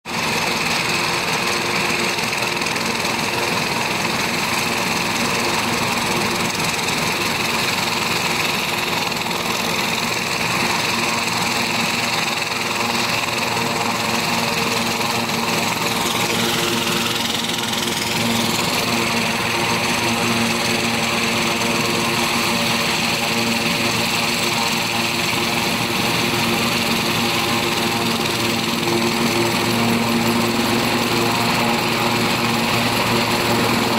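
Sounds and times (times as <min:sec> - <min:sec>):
helicopter rotor noise: 0:00.1 - 0:33.9
helicopter turbine whine: 0:00.1 - 0:33.9.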